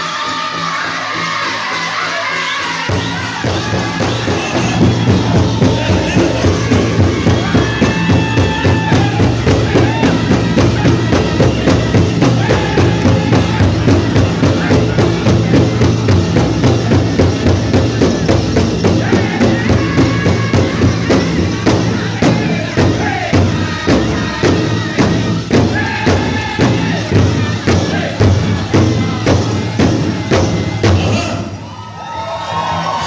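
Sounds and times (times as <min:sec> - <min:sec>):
big drum fast beat: 0:00.0 - 0:31.7
drum group singing: 0:00.0 - 0:33.0.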